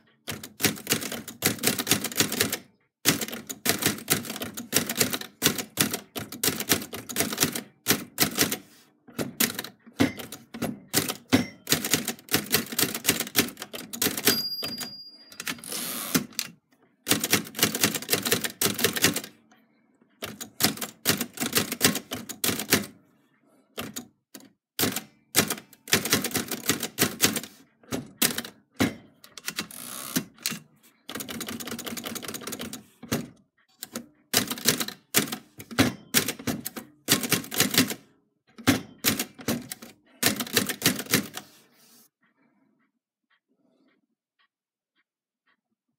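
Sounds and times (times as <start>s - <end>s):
manual typewriter typing: 0.1s - 19.4s, 20.2s - 23.0s, 23.8s - 38.0s, 38.6s - 41.6s.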